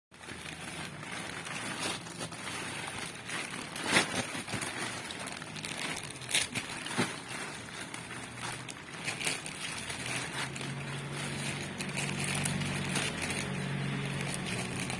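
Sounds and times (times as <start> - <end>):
packaging crinkling and rustling: 0.1 - 14.9.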